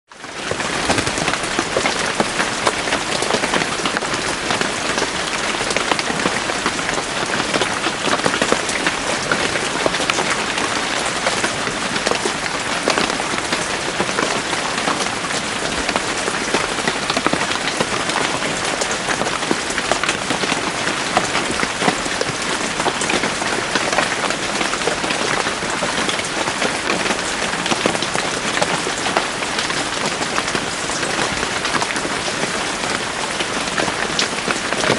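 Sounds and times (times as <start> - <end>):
heavy rain on leaves: 0.1 - 34.9.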